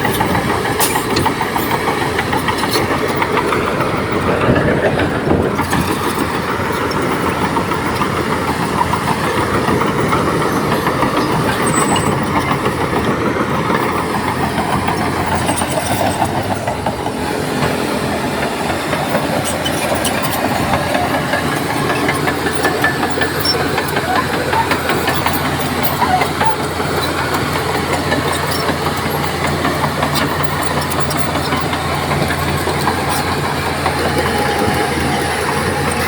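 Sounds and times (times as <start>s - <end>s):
diesel engine under load: 0.0s - 36.0s
steel tracks clattering: 0.0s - 36.0s.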